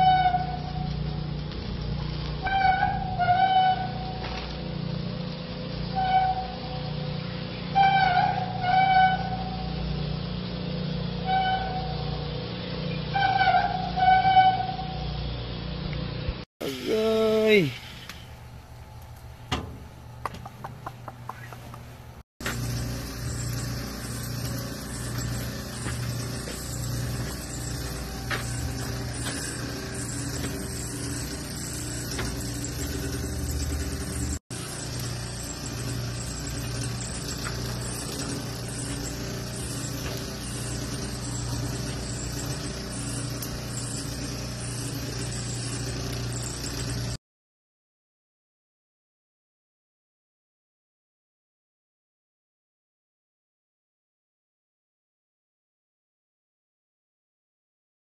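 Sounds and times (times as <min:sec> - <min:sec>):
low mechanical hum: 0:00.0 - 0:47.2.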